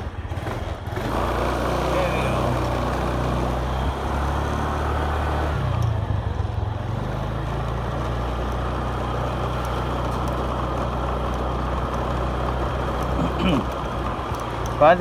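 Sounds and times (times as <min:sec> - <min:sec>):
motorbike engine running: 0:00.0 - 0:15.0
road noise: 0:00.0 - 0:15.0.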